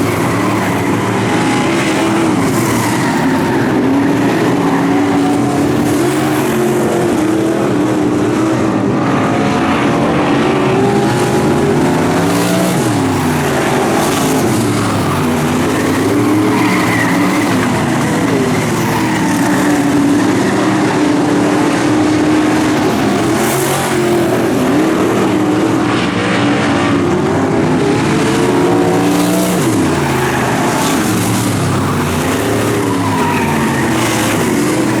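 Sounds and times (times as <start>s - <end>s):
race car engines: 0.0s - 35.0s.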